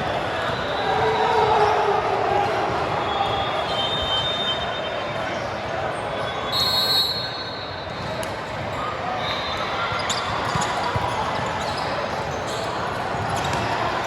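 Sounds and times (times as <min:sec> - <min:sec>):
background voices in gym: 0:00.0 - 0:14.0.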